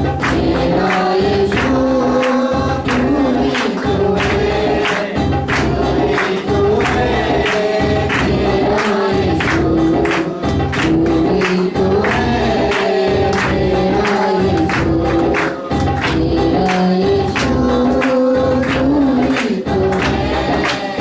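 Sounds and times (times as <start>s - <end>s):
heavy bass line: 0.0s - 20.7s
group singing: 0.0s - 21.0s
percussion beat: 0.0s - 21.0s.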